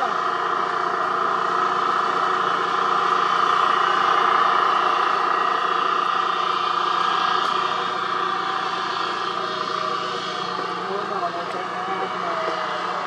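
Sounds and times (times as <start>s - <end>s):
diesel engines droning: 0.0s - 13.0s
steady high hum: 0.0s - 13.0s.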